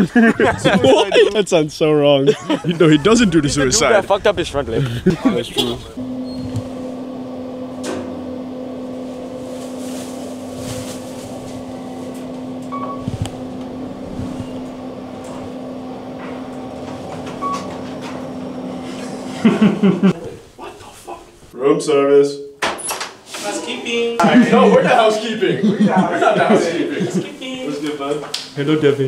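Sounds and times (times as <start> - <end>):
elevator hum: 0.0 - 21.5, 23.4 - 28.2.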